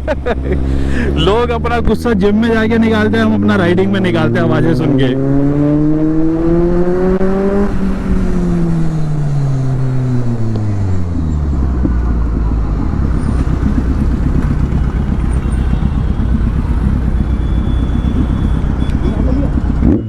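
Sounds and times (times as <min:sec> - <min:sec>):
motorcycle engine and exhaust: 0:00.0 - 0:20.0.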